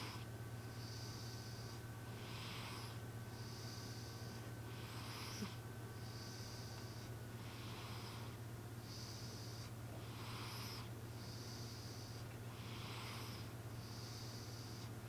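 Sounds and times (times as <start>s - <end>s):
cat snoring: 0.0s - 14.9s
steady low hum: 0.0s - 15.0s.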